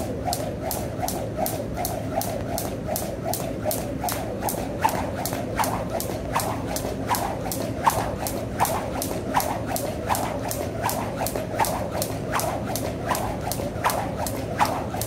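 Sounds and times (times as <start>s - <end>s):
jump rope swishing and ticking: 0.0s - 15.0s
sharp rope slap: 0.0s - 15.0s.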